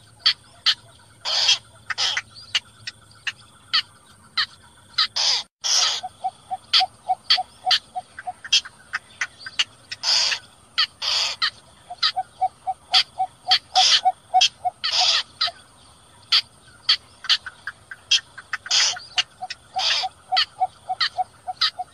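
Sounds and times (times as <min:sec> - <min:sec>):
bird rasping calls: 0:00.0 - 0:15.7, 0:16.3 - 0:21.9.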